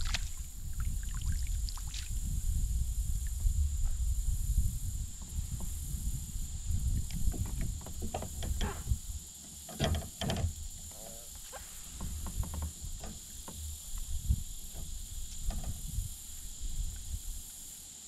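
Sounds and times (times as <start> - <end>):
wind rumbling on microphone: 0.0 - 17.6
high-pitched insect drone: 0.0 - 18.0.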